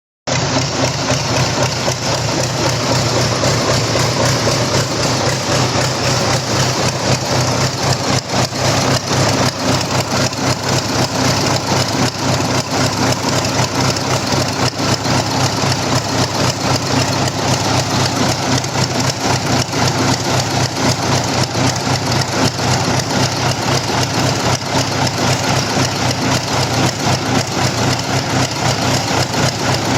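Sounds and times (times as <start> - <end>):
engine running steadily: 0.3 - 29.9.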